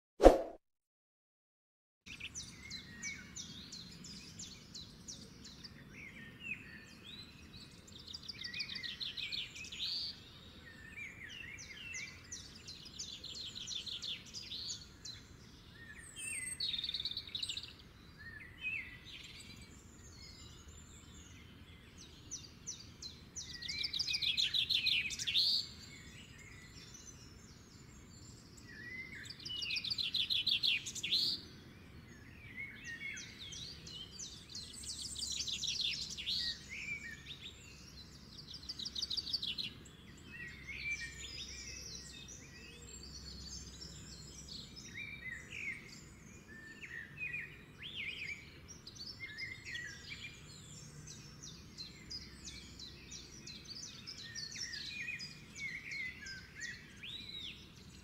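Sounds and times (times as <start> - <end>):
songbirds trilling and chirping: 2.1 - 58.0.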